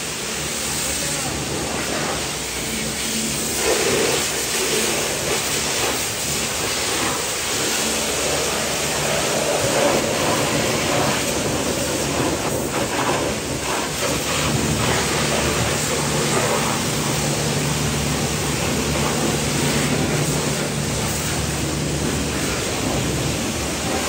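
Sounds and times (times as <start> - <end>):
pressure washer spraying a car: 0.0 - 24.0.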